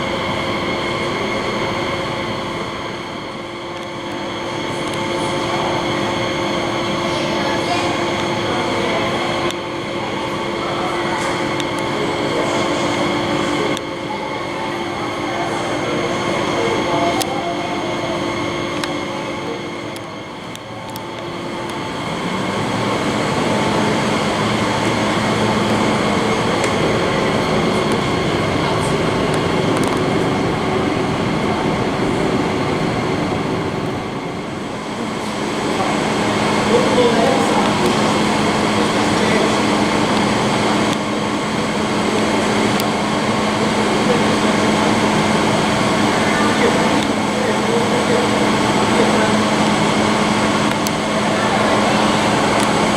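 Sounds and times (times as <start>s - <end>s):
electric train equipment humming: 0.0s - 52.9s.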